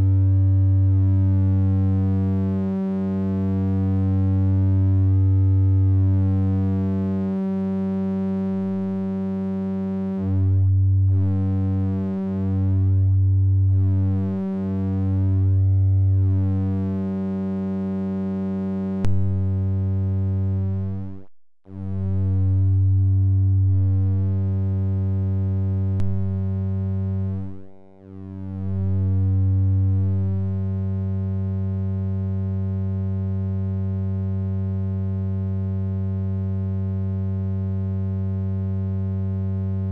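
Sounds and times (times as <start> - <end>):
low synthesizer tone: 0.0 - 33.2.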